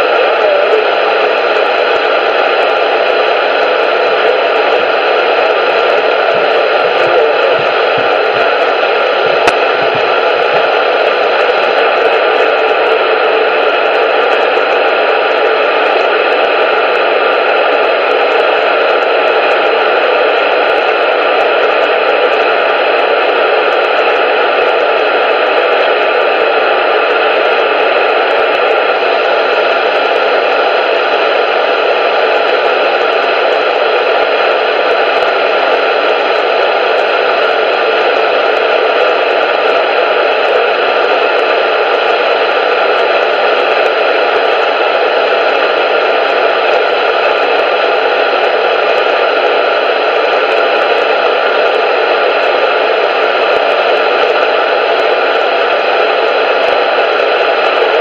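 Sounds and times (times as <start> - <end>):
static hiss: 0.0 - 58.0.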